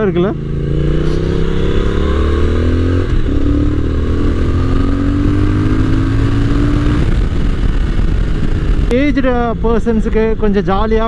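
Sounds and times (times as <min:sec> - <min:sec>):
motorcycle engine accelerating: 0:00.0 - 0:08.9.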